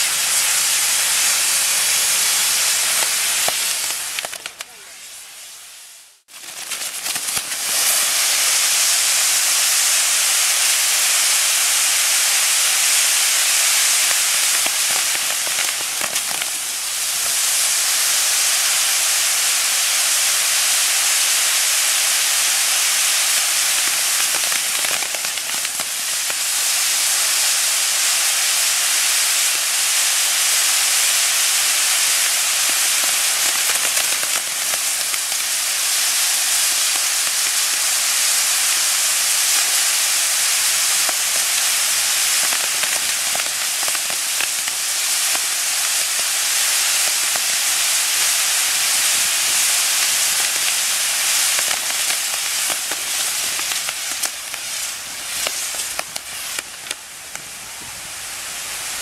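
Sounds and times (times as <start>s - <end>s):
crackling firework pops: 0.0s - 59.0s
firework wheels hissing: 0.0s - 59.0s.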